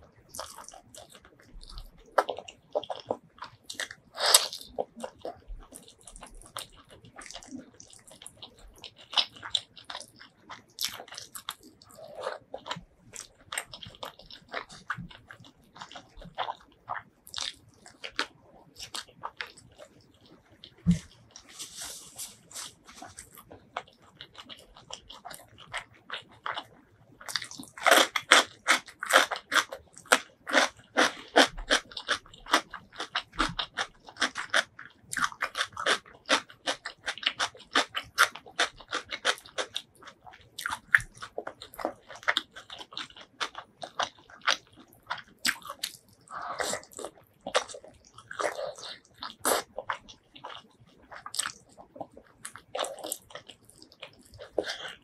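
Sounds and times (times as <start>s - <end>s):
chewing with crisp crunching: 0.0s - 55.0s.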